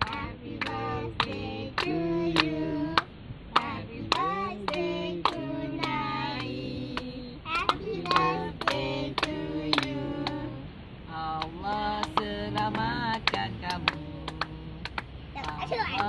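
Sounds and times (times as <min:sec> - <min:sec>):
people clapping: 0:00.0 - 0:10.5, 0:11.4 - 0:16.0
women and girl singing: 0:00.0 - 0:16.0.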